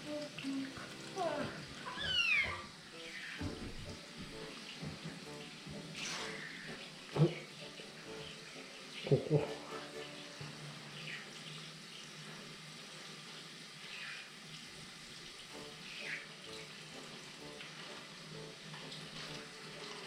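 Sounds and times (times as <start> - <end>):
shower head spraying water: 0.0 - 20.0.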